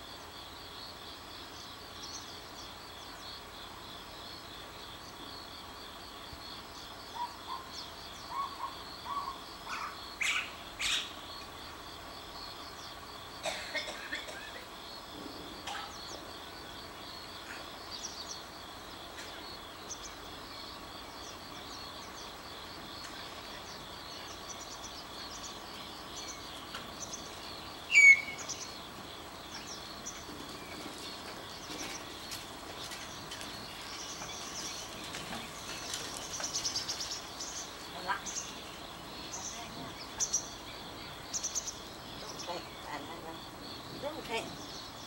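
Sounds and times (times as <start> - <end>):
starlings chirping and chattering: 0.2 - 45.0.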